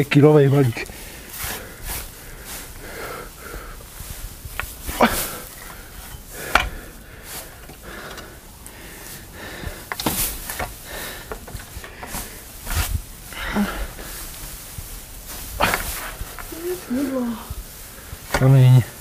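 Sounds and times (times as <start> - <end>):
hay bales knocking and thudding: 0.0 - 19.0
hay rustling: 0.0 - 19.0.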